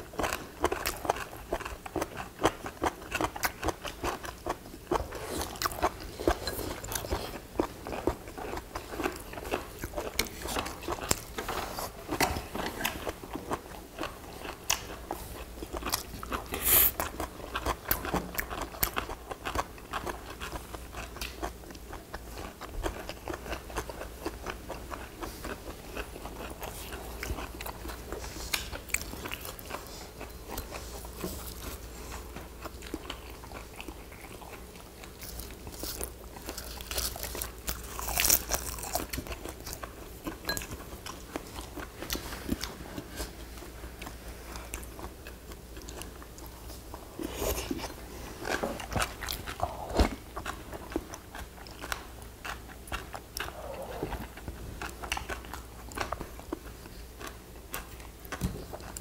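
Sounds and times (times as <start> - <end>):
people chewing and crunching food: 0.0 - 59.0.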